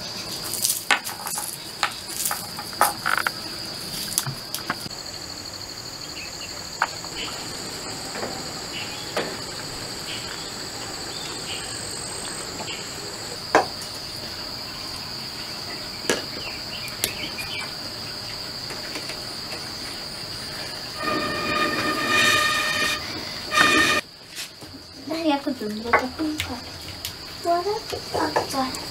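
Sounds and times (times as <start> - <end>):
higher insect drone: 0.0 - 24.2
insects trilling: 0.0 - 28.9.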